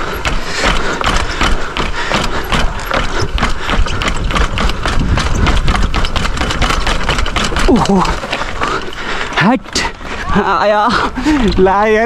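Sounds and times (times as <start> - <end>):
bicycle rattling and knocking: 0.0 - 12.0.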